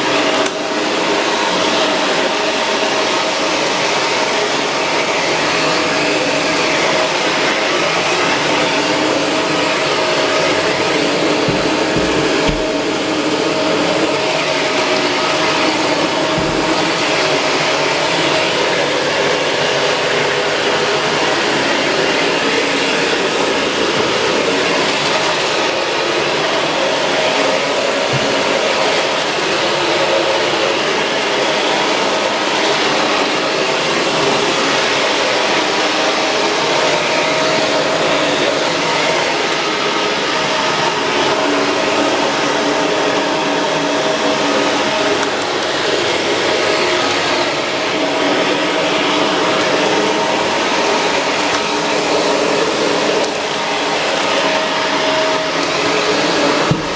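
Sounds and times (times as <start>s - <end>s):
vacuum cleaner motor whining: 0.0s - 56.9s.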